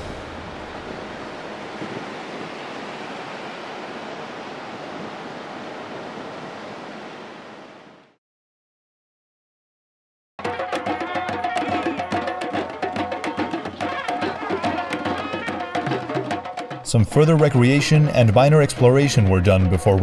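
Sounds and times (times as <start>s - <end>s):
surf: 0.0s - 8.1s, 10.4s - 20.0s.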